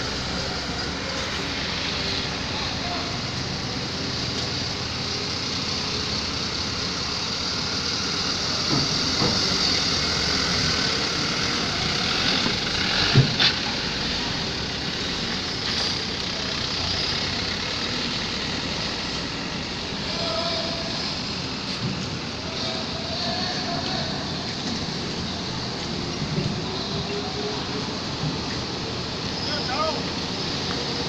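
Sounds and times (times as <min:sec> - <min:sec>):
truck engines running: 0:00.0 - 0:31.0.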